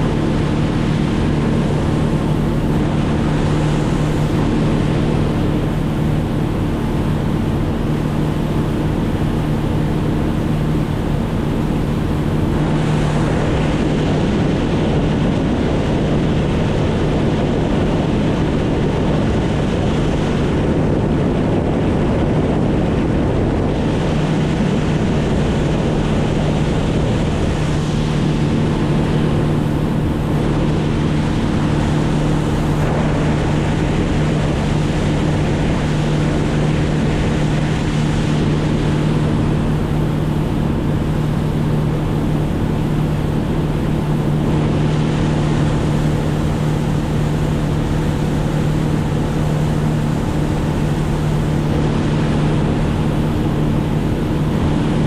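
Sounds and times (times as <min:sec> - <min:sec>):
engine running steadily: 0:00.0 - 0:55.0
wind noise on microphone: 0:00.0 - 0:55.0.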